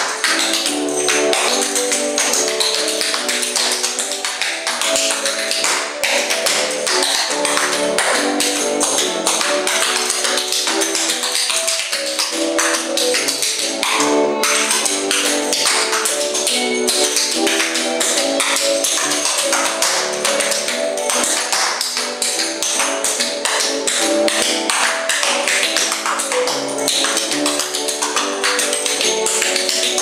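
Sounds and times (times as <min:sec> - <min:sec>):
hard shoes tapping on floor: 0:00.0 - 0:30.0.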